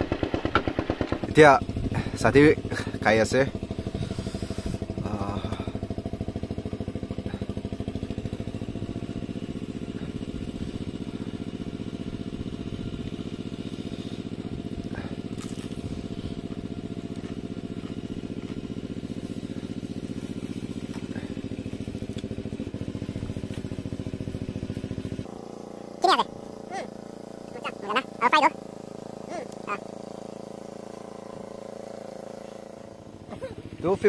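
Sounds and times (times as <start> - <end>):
small engine idling: 0.0 - 34.0.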